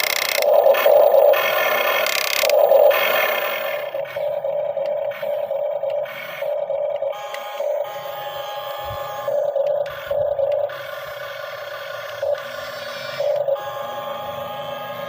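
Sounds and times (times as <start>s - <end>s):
small electric motor whining: 0.0s - 15.0s.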